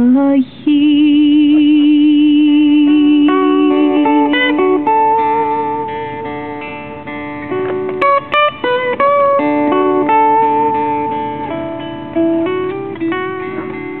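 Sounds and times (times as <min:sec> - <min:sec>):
acoustic guitar played slowly: 0:00.0 - 0:14.0.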